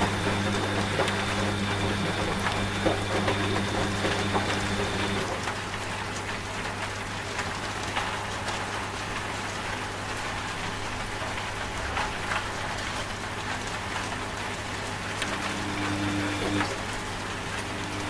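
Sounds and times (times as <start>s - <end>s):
rain falling: 0.0s - 18.0s
washing machine humming: 0.0s - 18.0s.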